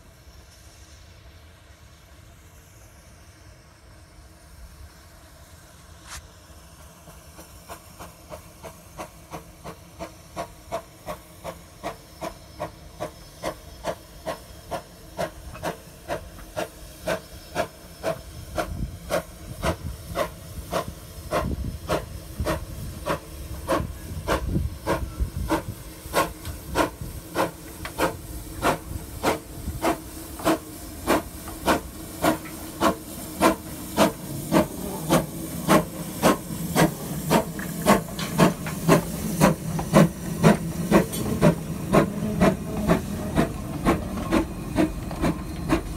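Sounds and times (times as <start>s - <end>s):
steam locomotive exhaust chuffing: 0.0s - 45.9s.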